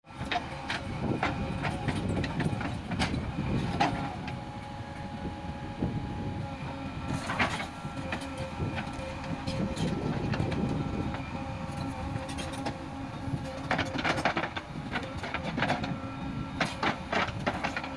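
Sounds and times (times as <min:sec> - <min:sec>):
heavy machine engine rumbling: 0:00.1 - 0:17.9.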